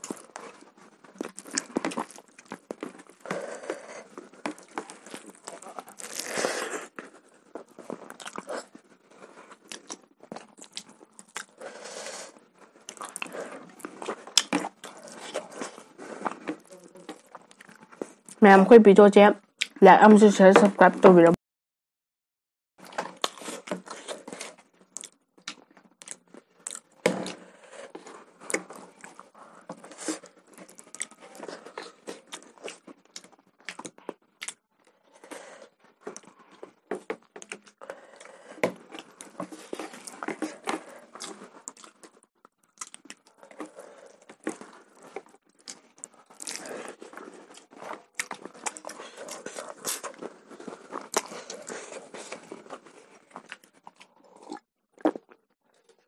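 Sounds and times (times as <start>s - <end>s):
chewing and mouth smacks: 0.0s - 11.6s, 12.2s - 18.4s, 22.8s - 35.3s, 36.0s - 56.0s.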